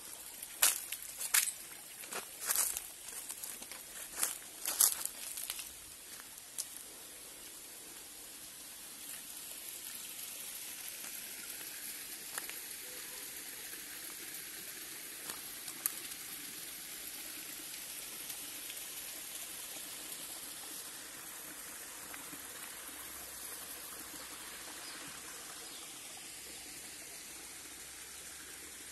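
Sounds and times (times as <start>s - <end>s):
stream running over rocks: 0.0s - 28.9s.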